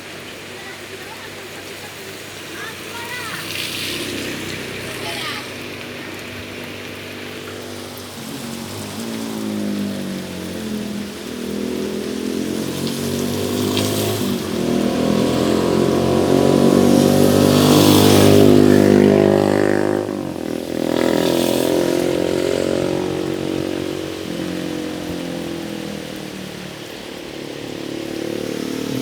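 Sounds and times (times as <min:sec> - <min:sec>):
vehicle engine revving: 0:02.1 - 0:29.0.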